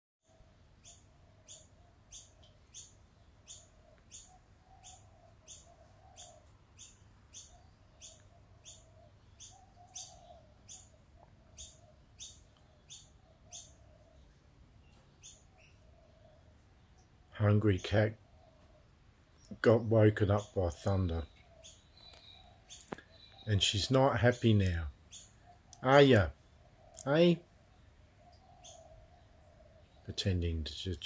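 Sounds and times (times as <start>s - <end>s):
small bird chirping: 0.2s - 31.0s.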